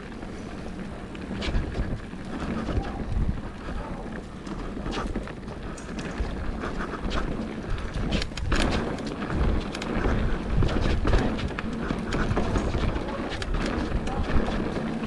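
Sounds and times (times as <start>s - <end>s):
bike rattling and knocking: 0.0s - 15.0s
tyres on dirt: 0.0s - 15.0s
wind on microphone: 0.0s - 15.0s.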